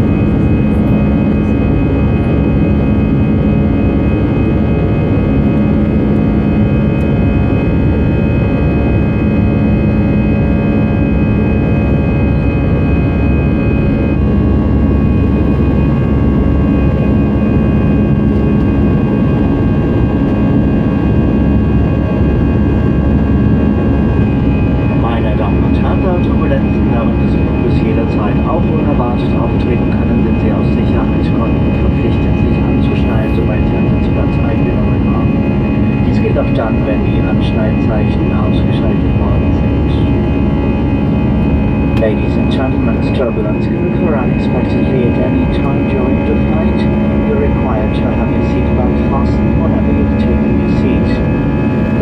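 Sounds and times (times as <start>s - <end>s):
jet engine rush with whining: 0.0s - 52.0s.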